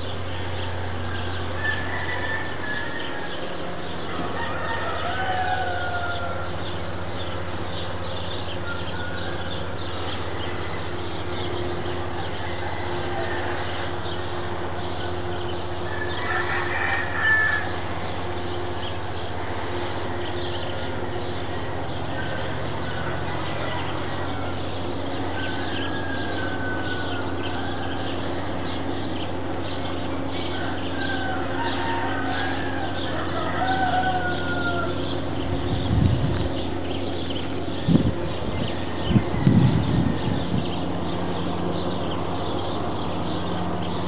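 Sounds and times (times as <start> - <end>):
roosters crowing: 0.0 - 44.0
steady low hum: 0.0 - 44.0.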